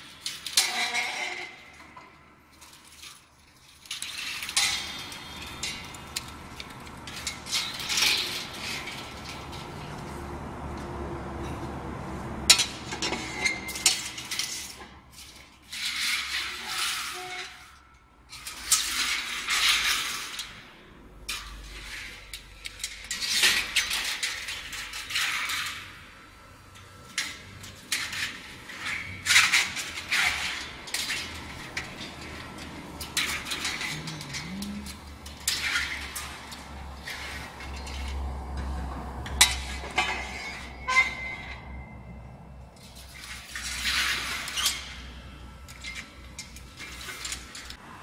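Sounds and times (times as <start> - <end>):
metal strip clinking and scraping: 0.0 - 10.2, 12.5 - 20.7, 21.3 - 38.2, 42.8 - 47.8.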